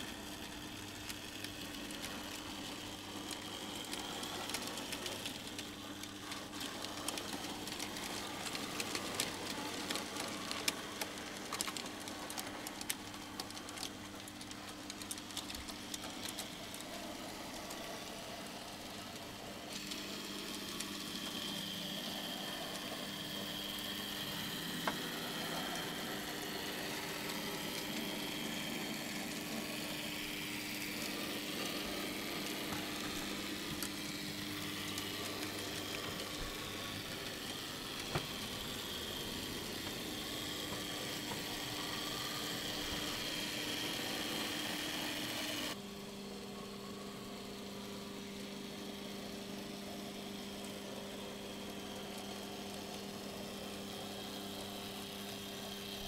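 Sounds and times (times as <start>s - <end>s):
model train wheels clicking: 0.0s - 45.8s, 49.0s - 56.0s
small electric motor humming: 0.0s - 56.0s.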